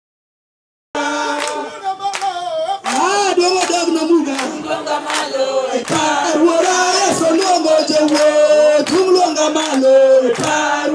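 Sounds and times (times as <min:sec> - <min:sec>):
group singing unaccompanied: 0:01.0 - 0:10.9
hand claps: 0:01.3 - 0:10.9.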